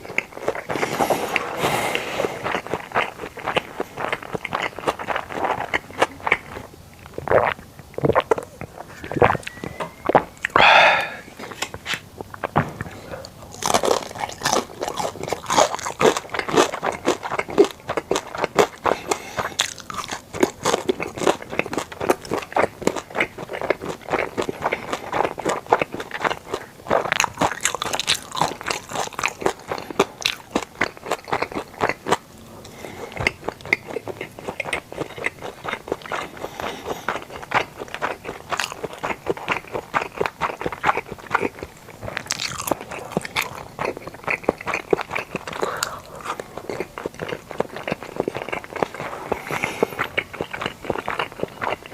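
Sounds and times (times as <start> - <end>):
person chewing food: 0.0 - 51.9
wet mouth sounds: 0.0 - 51.9.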